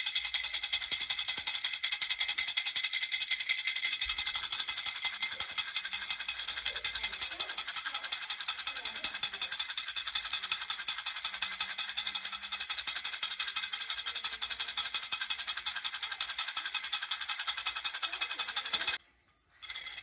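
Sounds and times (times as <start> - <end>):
baby rattle shaking: 0.0 - 20.0.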